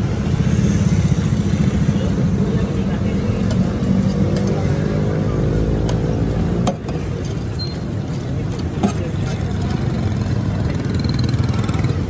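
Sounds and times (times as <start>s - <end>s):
engine and traffic rumble: 0.0s - 12.0s.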